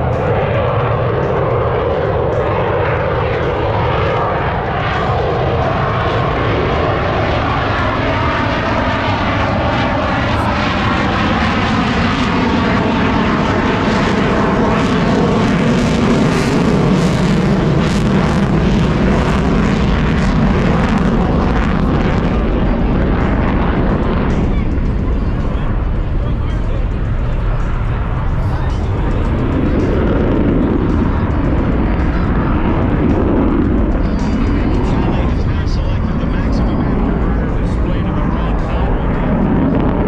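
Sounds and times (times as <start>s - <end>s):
aircraft engine noise: 0.0s - 40.0s.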